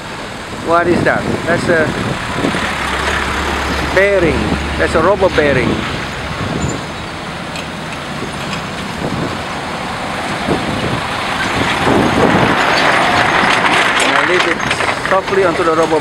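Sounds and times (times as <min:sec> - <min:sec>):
heavy diesel engine under load: 0:00.0 - 0:16.0.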